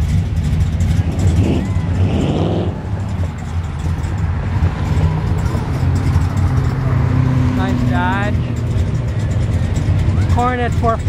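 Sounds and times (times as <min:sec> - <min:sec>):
car engines rumbling: 0:00.0 - 0:11.0
car passing close: 0:00.0 - 0:11.0.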